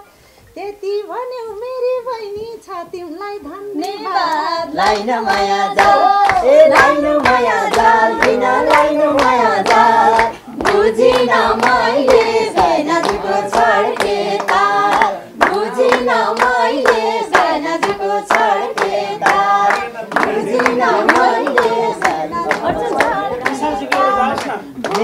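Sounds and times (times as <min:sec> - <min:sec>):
folk singing: 0:02.6 - 0:25.0
steady clapping: 0:03.8 - 0:25.0.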